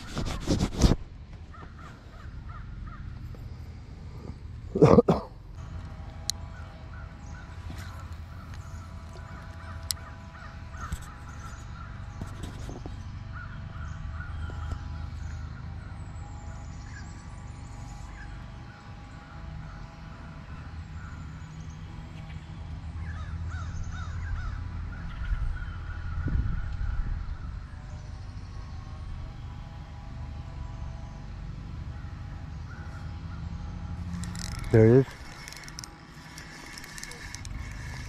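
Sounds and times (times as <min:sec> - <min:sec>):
birds calling harshly: 0:00.0 - 0:38.0
low steady rumble: 0:01.0 - 0:38.0.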